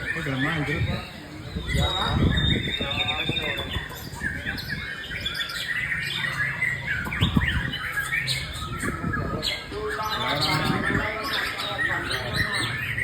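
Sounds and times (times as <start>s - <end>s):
bird singing rapid varied song: 0.0s - 13.0s.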